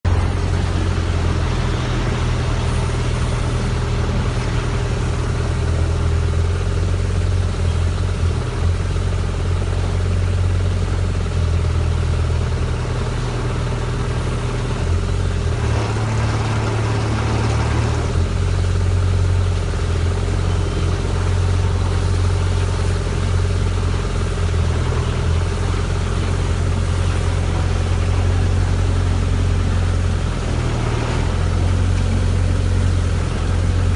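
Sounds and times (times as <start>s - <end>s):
drilling rig engine running: 0.0s - 33.9s.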